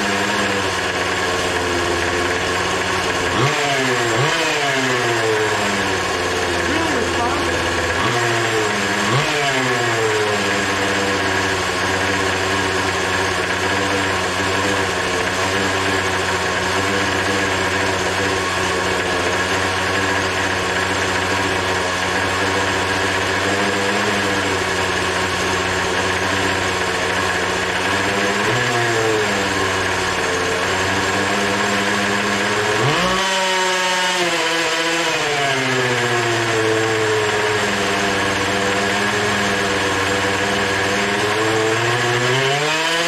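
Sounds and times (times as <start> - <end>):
small two-stroke engine running: 0.0 - 43.0.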